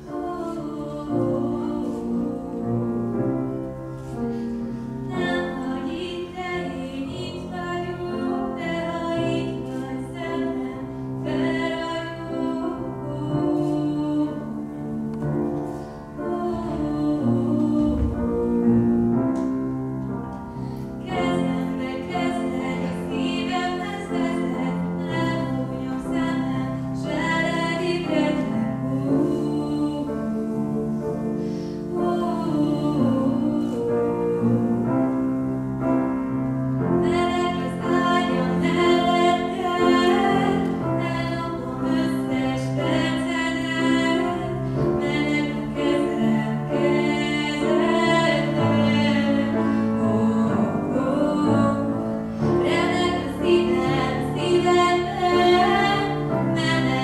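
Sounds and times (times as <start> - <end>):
woman singing slow song: 0.0 - 2.7, 5.1 - 14.7, 16.2 - 18.6, 21.0 - 30.9, 31.9 - 34.4, 37.0 - 57.0
piano accompaniment: 0.0 - 57.0.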